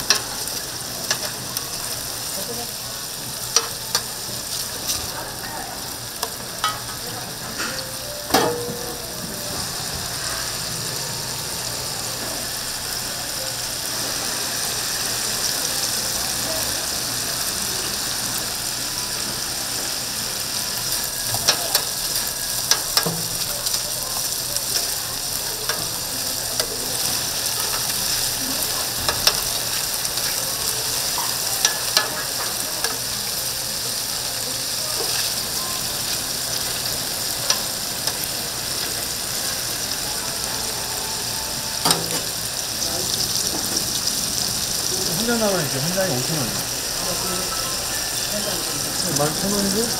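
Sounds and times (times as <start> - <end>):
meat patties sizzling: 0.0 - 49.9.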